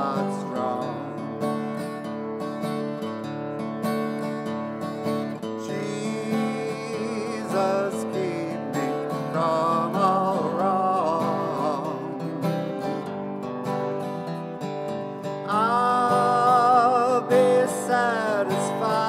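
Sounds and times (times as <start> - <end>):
strummed acoustic guitar chords: 0.0 - 19.0.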